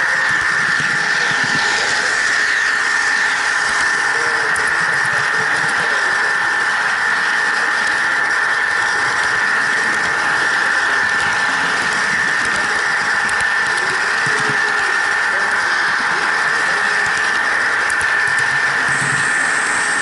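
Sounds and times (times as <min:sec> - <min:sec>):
model train motor whine: 0:00.0 - 0:20.0
train rushing noise: 0:00.0 - 0:20.0.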